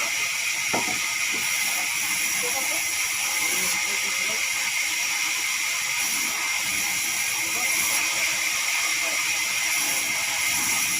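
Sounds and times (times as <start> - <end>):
band saw cutting log: 0.0 - 10.9.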